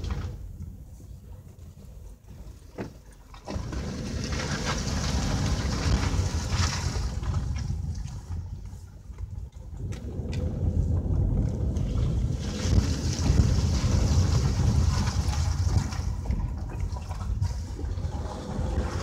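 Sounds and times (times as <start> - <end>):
low road rumble: 0.0 - 19.0.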